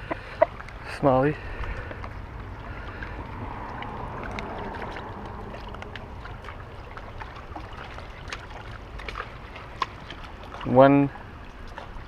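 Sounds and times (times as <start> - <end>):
waves lapping on rocks: 0.0 - 12.0.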